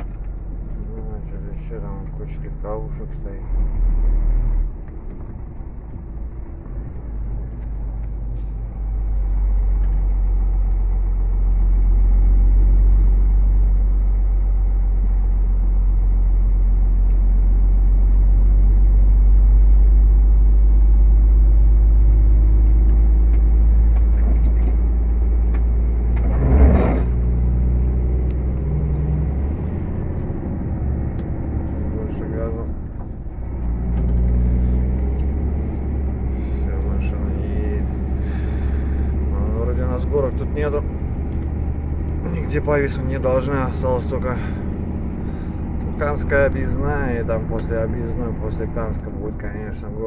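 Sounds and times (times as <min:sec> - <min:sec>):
road noise: 0:00.0 - 0:50.0
truck engine drone: 0:00.0 - 0:50.0.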